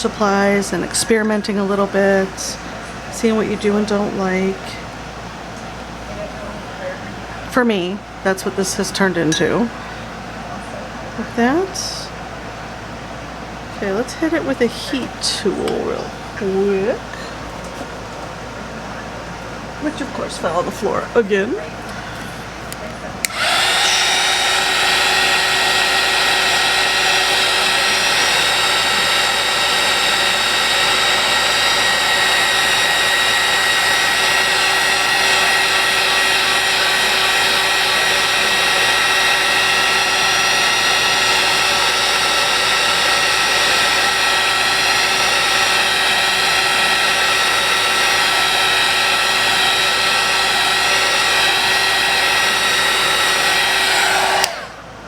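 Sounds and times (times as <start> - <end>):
heat tool fan whining: 0.0 - 55.0.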